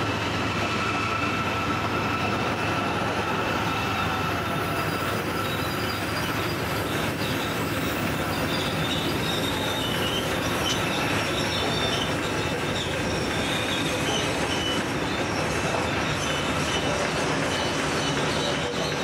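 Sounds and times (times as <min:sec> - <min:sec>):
diesel locomotive engines running: 0:00.0 - 0:19.0
high wheel squeal: 0:00.0 - 0:19.0
wheels rumbling on rail: 0:00.0 - 0:19.0.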